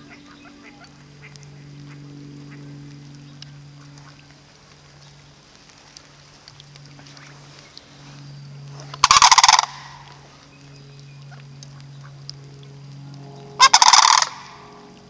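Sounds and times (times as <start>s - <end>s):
cranes rattling calls: 0.0s - 12.6s, 13.2s - 15.0s
faint low hum: 0.0s - 15.0s.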